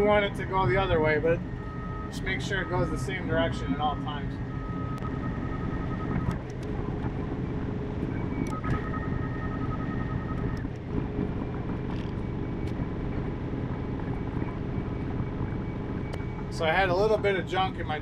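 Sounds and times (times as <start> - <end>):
bulldozer diesel engine running: 0.0 - 18.0
high steady whine: 0.0 - 18.0.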